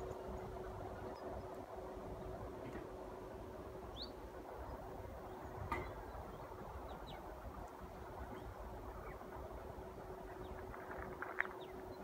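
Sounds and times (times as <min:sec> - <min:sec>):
faint steady hum: 0:00.0 - 0:12.0
steady low rumble: 0:00.0 - 0:12.0.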